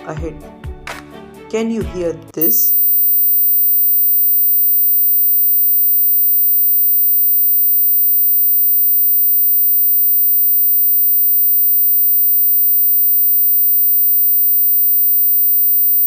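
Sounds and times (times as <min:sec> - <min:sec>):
high-pitched sine test tone: 0:02.4 - 0:16.0.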